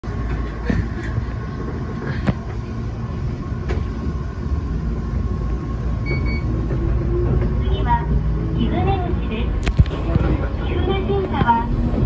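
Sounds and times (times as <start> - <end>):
railcar rumble on track: 0.0 - 12.0.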